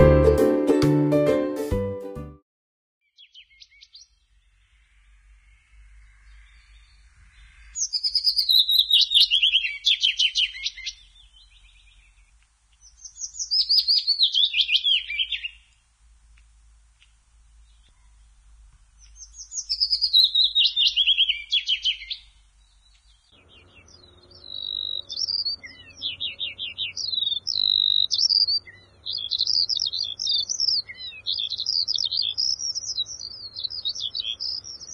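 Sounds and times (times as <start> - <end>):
songbirds chirping and trilling: 3.0 - 34.9.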